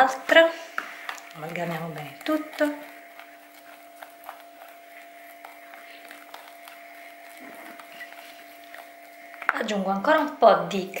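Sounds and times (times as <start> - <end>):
steady low hum: 0.0 - 11.0
spatula tapping and scraping bowl: 0.7 - 9.6.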